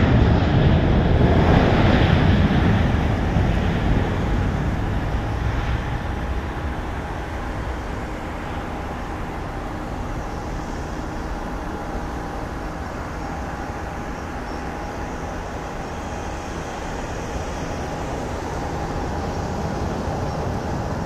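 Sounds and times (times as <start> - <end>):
jet engine roar at takeoff: 0.0 - 21.0.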